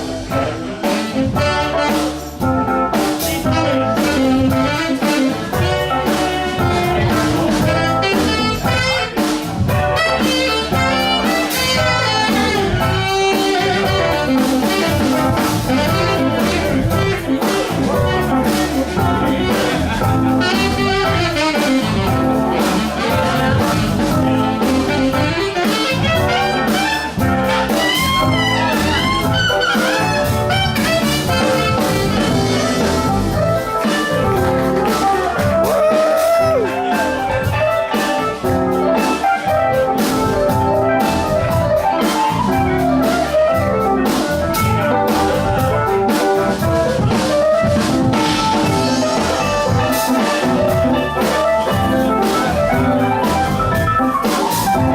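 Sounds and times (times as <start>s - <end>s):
blues band playing: 0.0s - 54.9s
saxophone lead: 0.0s - 54.9s.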